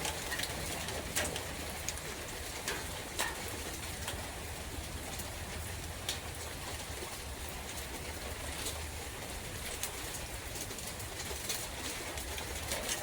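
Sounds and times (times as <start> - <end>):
rain falling in a forest: 0.0 - 13.0.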